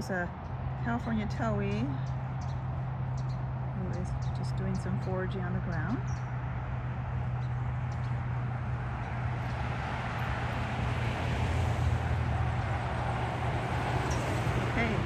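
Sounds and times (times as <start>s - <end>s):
freeway traffic rumble: 0.0s - 15.0s.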